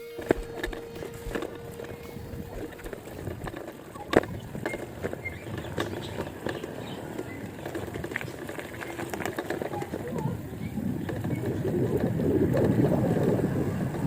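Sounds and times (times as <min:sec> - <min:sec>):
electric bike rattling: 0:00.0 - 0:14.0.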